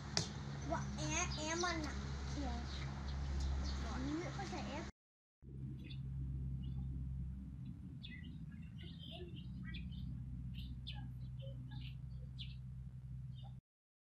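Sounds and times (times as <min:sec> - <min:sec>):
birds chirping: 0:00.0 - 0:04.9, 0:05.7 - 0:13.6
steady low hum: 0:00.0 - 0:13.6.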